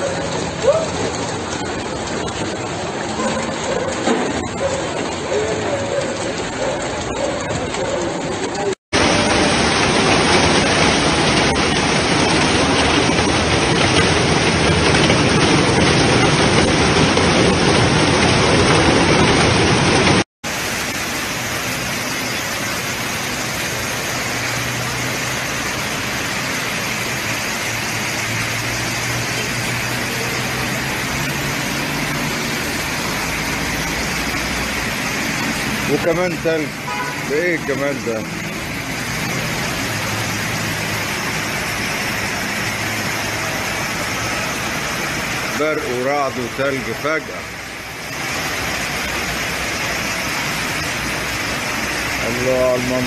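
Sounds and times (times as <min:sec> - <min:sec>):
heavy downpour rushing: 0:00.0 - 0:53.0.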